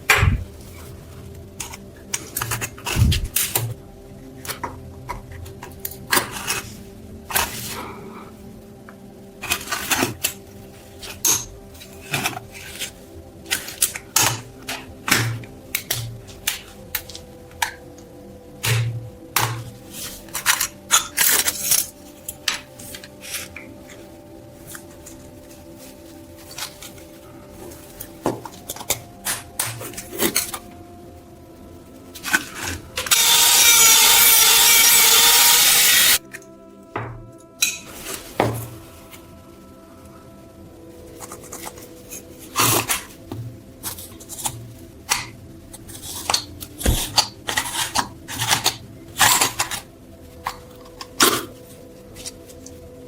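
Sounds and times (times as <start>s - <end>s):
loud steady noise: 0.0s - 53.0s.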